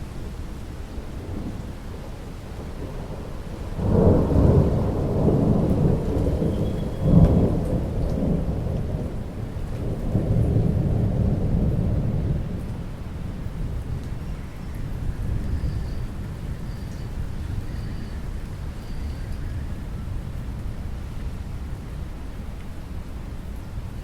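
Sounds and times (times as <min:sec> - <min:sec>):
rain falling steadily: 0:00.0 - 0:24.0
thunder rumbling: 0:01.2 - 0:21.0.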